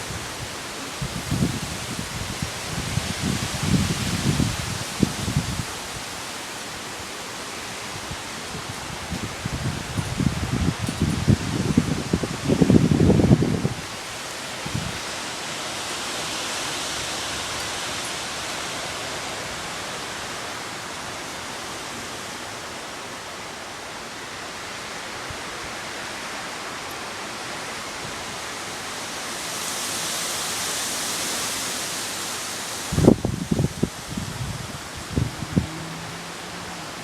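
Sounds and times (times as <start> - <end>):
strong wind: 0.0 - 22.6, 23.4 - 37.0
heavy rain pouring: 0.0 - 37.0.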